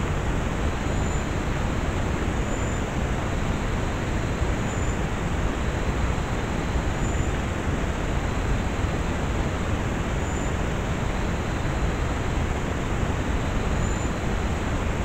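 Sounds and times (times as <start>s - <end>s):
steady recording hiss: 0.0s - 15.0s.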